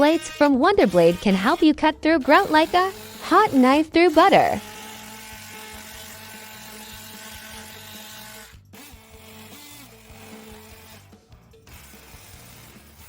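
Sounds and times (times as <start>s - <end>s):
multi-tool buzzing cutting grout: 0.0s - 13.0s
quiet background music: 0.0s - 13.0s.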